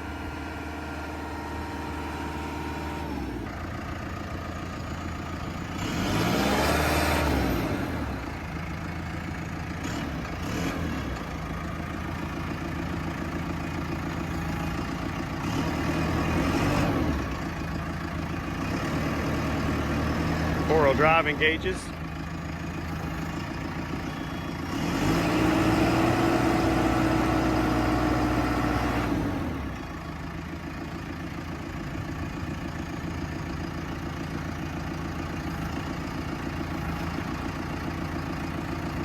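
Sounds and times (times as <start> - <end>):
diesel engine running and revving: 0.0 - 39.0.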